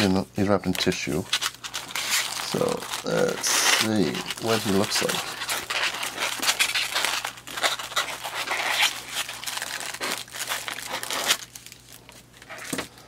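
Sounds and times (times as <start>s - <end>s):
styrofoam scraping: 0.8s - 11.6s
tissue paper crinkling: 0.8s - 12.8s.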